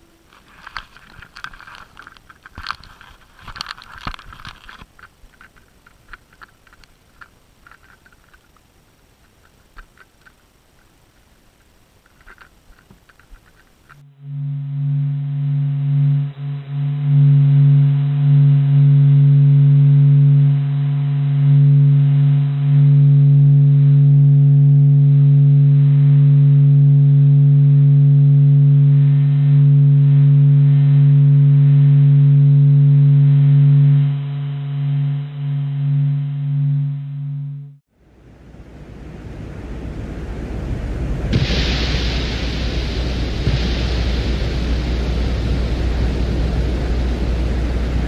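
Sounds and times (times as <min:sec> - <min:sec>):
deep hum with overtones: 0:00.0 - 0:09.8, 0:12.7 - 0:48.0.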